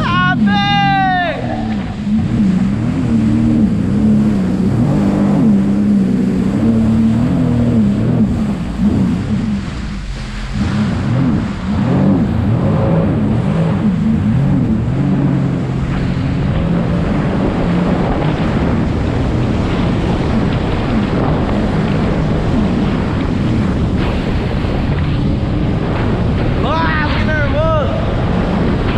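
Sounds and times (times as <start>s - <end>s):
motorboat engine: 0.0s - 28.9s
water rushing against hull: 0.0s - 28.9s
wind buffeting microphone: 0.0s - 28.9s.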